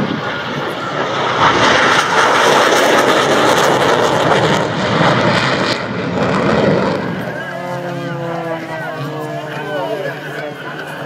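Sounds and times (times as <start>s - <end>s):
jet engines rushing overhead: 0.0s - 11.0s.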